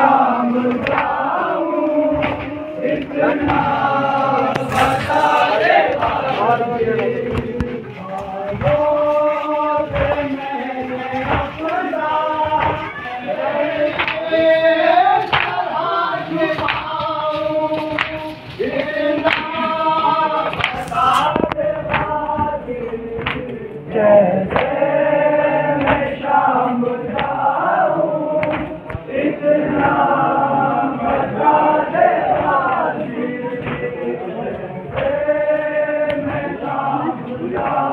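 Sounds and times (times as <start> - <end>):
men chanting in chorus: 0.0 - 37.9.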